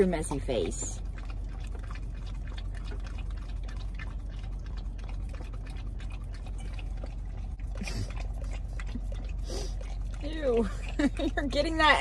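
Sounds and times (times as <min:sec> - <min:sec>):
dog licking and lapping: 0:00.0 - 0:12.0
steady low hum: 0:00.0 - 0:12.0.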